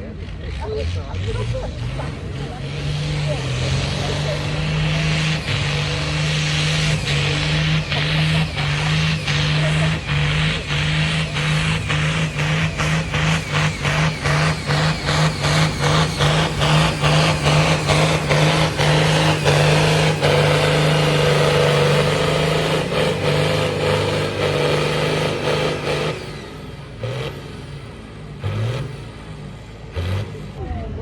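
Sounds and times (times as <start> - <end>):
tractor engine running under load: 0.0 - 31.0.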